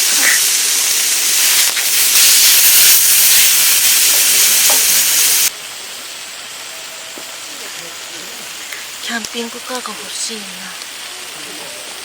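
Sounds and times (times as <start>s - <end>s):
steak sizzling: 0.0s - 12.0s.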